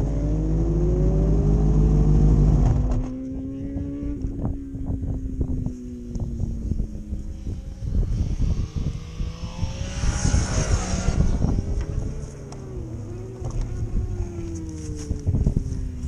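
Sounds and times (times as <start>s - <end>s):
motorcycle passing: 0.0s - 16.0s
steady engine drone: 0.0s - 16.0s
wind buffeting microphone: 2.6s - 16.0s.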